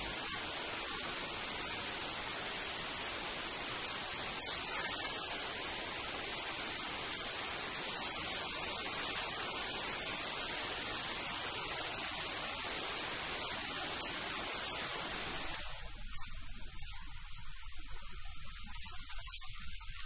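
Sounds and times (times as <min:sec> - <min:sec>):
steady static hiss: 0:00.0 - 0:20.0.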